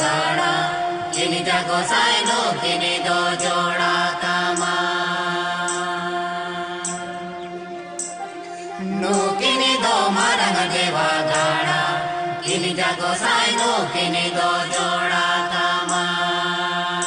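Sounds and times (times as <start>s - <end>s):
steady drone: 0.0s - 17.0s
voices chanting: 0.0s - 17.0s.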